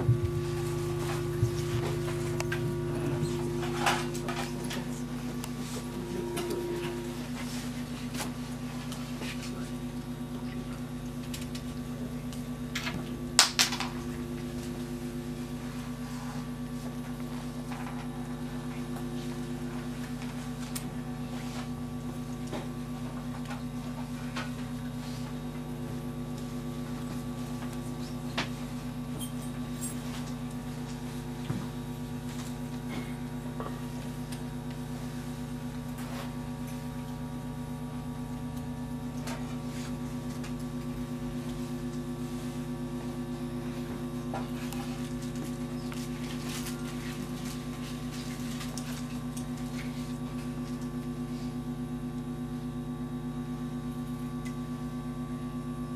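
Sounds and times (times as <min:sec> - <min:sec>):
electrical hum: 0:00.0 - 0:55.9.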